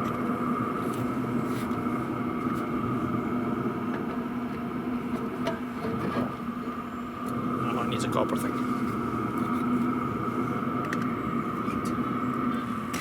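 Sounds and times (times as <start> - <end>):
diesel air heater humming: 0.0 - 13.0.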